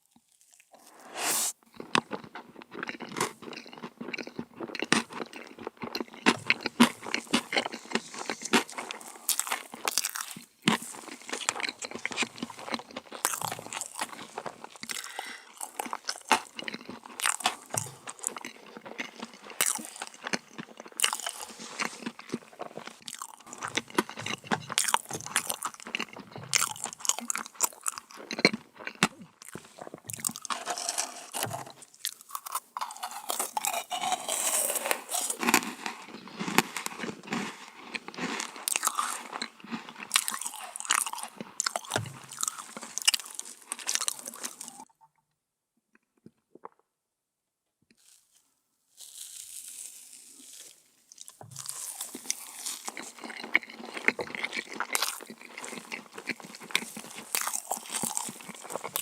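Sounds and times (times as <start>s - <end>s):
person chewing dessert: 0.0s - 44.9s, 49.0s - 59.0s.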